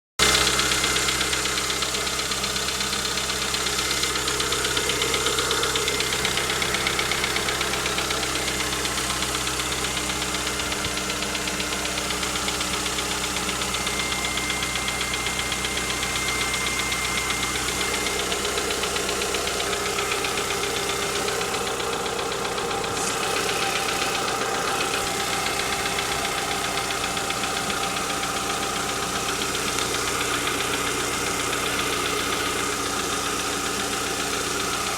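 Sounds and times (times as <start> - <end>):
car engine running: 0.2 - 34.9.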